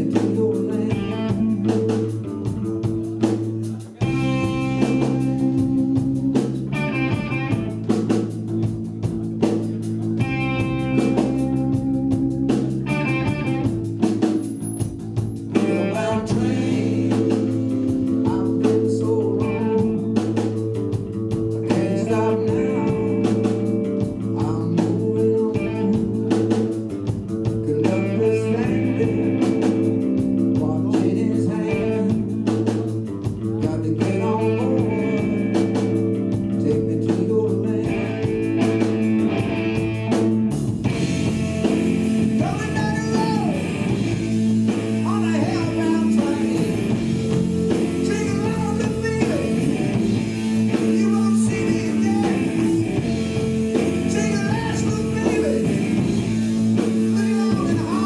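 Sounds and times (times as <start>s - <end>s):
bass and drum beat: 0.0s - 58.0s
electric guitar lines: 0.0s - 58.0s.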